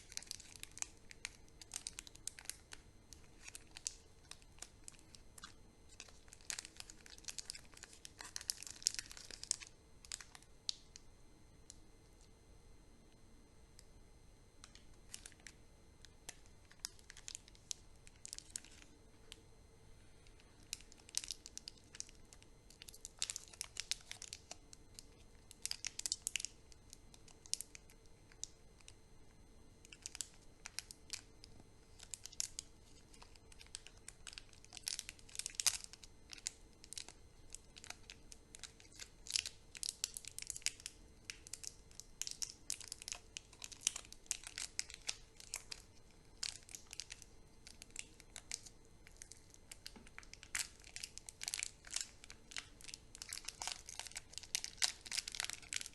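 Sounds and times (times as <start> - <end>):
candy wrappers crinkling: 0.0 - 11.0, 14.6 - 19.4, 20.2 - 29.0, 29.8 - 55.9.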